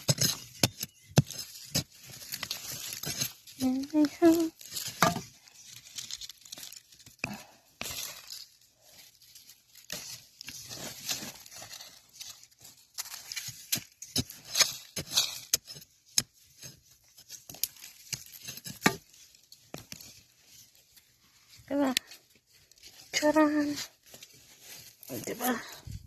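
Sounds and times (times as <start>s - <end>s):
scraping and rustling of earth: 0.0s - 26.0s.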